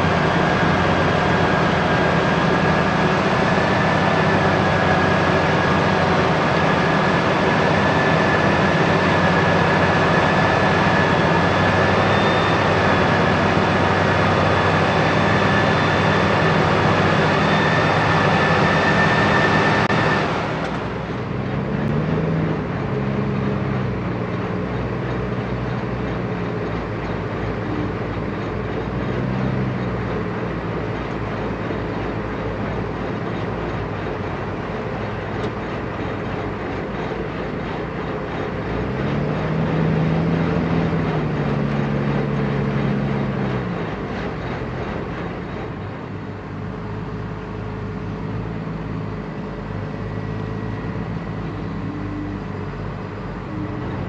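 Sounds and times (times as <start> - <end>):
tractor diesel engines droning: 0.0 - 54.0.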